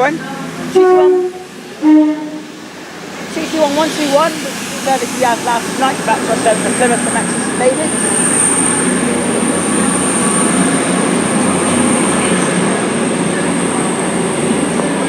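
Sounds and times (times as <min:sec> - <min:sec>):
diesel train engine rumble: 0:00.0 - 0:15.0
high-pitched whine: 0:00.0 - 0:15.0.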